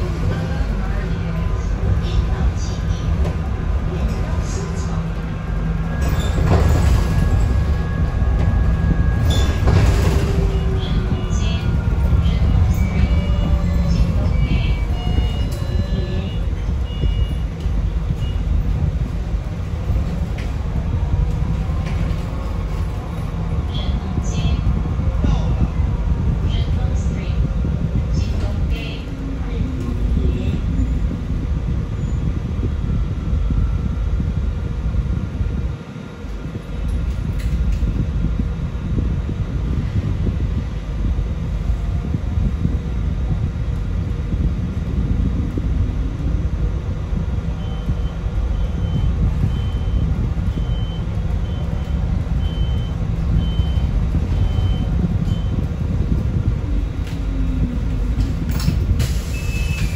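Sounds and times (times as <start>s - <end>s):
bus road rumble: 0.0s - 59.9s.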